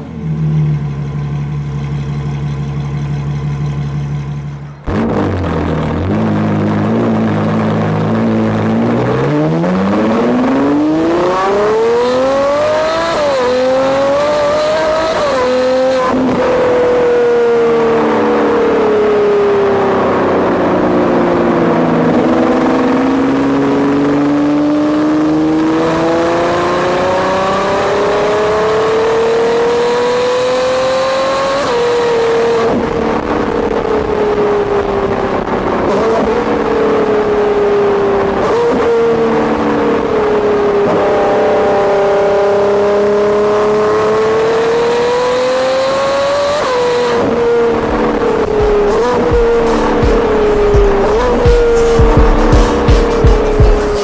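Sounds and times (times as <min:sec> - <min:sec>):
car engine idling and accelerating: 0:00.0 - 0:54.0.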